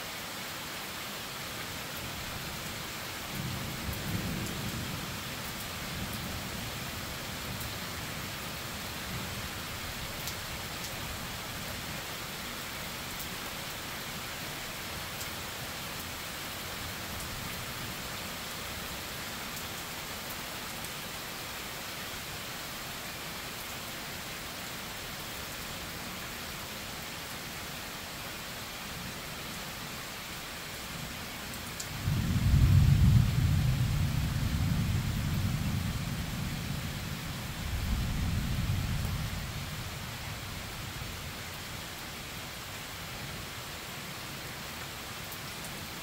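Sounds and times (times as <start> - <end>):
steady rain: 0.0 - 46.0.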